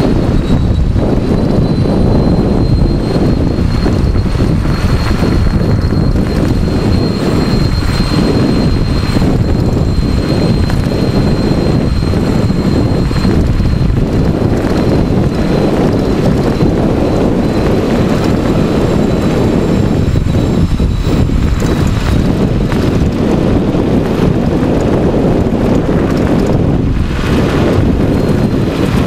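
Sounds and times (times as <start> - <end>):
electric motor high whine: 0.0 - 29.0
tyre noise on asphalt: 0.0 - 29.0
wind rushing over microphone: 0.0 - 29.0.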